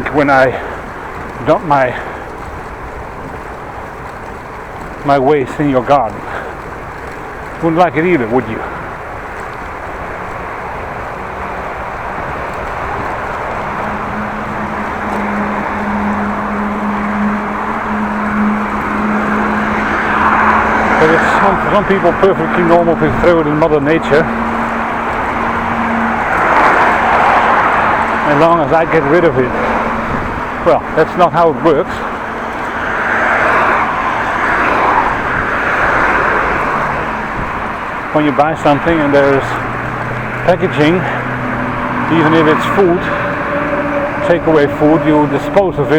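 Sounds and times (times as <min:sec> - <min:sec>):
vehicle passing: 0:00.0 - 0:45.9
wind and bicycle rolling noise: 0:00.0 - 0:45.9.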